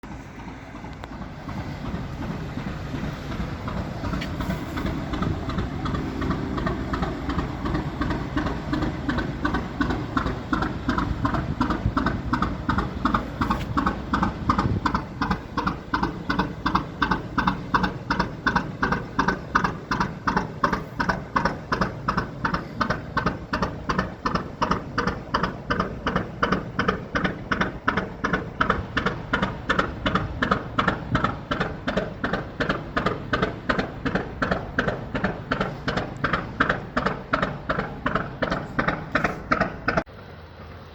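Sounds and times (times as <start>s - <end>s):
diesel engine knocking: 0.0s - 40.2s.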